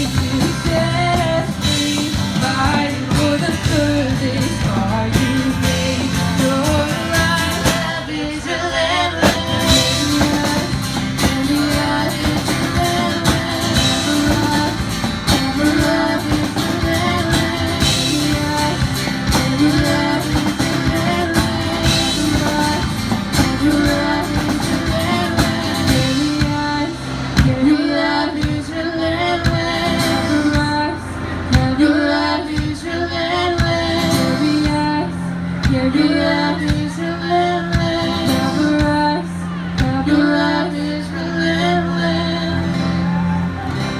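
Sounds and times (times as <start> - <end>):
drum kit: 0.0 - 8.5, 9.1 - 31.9, 33.6 - 37.1, 37.7 - 39.1
bass guitar: 0.0 - 43.9
electric guitar: 0.0 - 43.9
person singing: 0.0 - 43.9.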